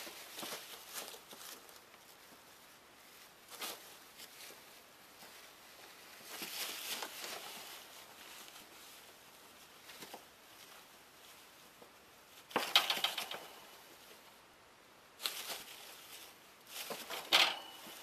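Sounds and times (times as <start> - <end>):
ferrets rustling in shredded paper: 0.0 - 13.2, 15.2 - 18.0.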